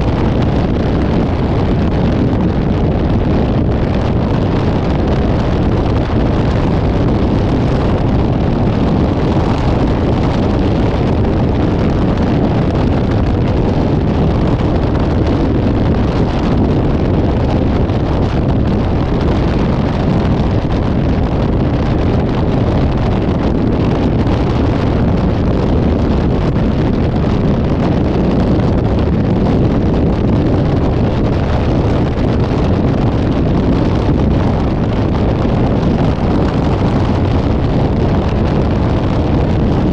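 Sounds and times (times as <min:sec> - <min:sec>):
vehicle rumble on road: 0:00.0 - 0:39.9
wind buffeting microphone: 0:00.0 - 0:39.9.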